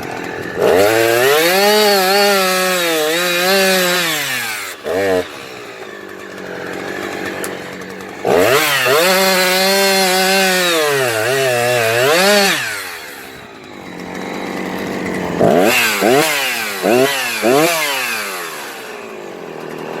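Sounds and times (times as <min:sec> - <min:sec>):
chainsaw revving and cutting wood: 0:00.0 - 0:20.0.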